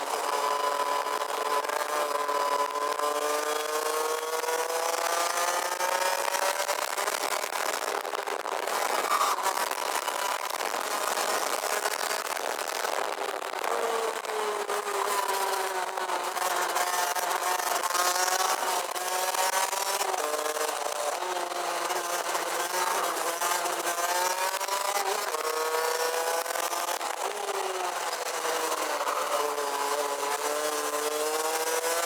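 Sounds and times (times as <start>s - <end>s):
kart engine revving: 0.0s - 7.8s, 13.8s - 32.0s.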